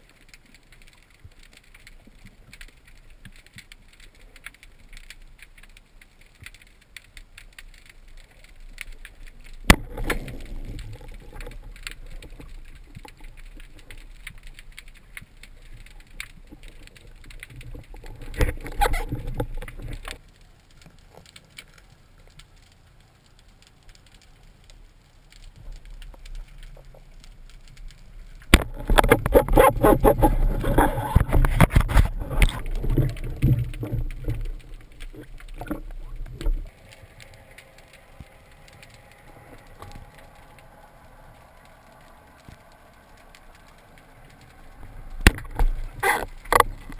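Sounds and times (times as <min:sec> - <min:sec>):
underwater crackling and clicking: 0:00.0 - 0:46.9
low underwater rumbling: 0:08.0 - 0:20.7, 0:21.9 - 0:46.9.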